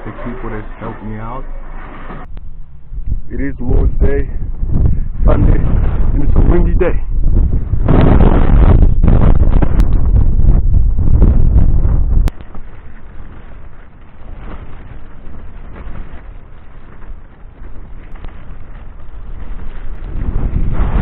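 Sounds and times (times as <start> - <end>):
wind buffeting microphone: 2.2 - 21.0.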